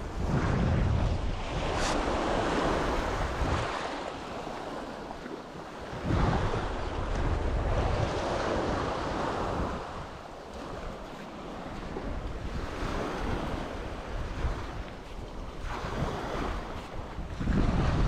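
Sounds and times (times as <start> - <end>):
sea waves washing up a beach: 0.0 - 18.0
wind rumbling on microphone: 0.0 - 18.0.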